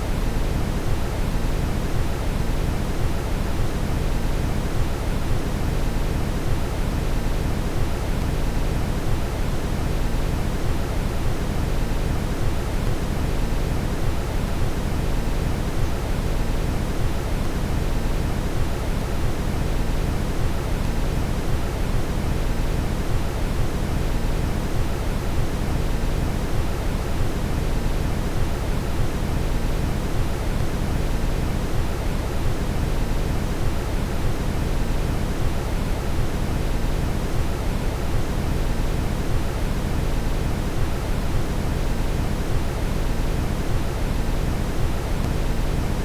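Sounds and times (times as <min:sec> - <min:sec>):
deep steady brown noise hiss: 0:00.0 - 0:46.0.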